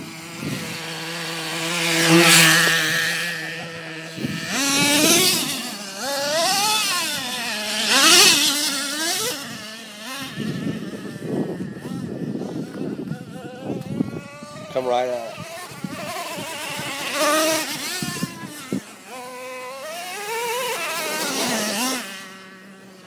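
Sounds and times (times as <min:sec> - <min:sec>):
nitro engine revving: 0:00.0 - 0:23.0.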